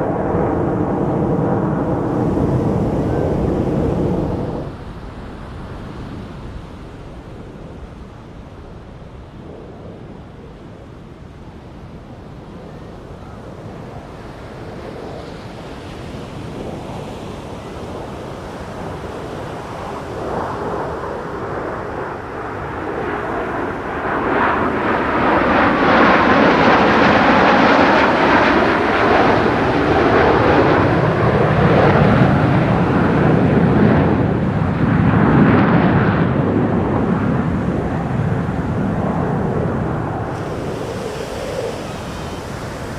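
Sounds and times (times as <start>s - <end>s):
jet engine roar: 0.0s - 42.9s.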